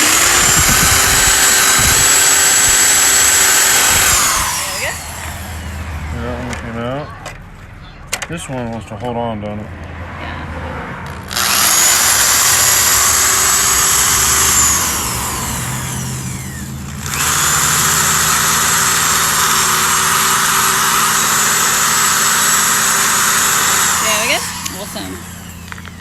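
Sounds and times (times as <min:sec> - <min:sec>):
power drill boring through plastic: 0:00.0 - 0:06.6, 0:11.2 - 0:26.0.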